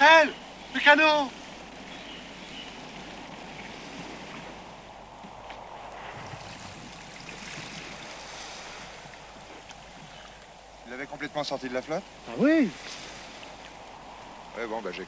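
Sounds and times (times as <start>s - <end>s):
small waves washing on shore: 0.0s - 15.0s.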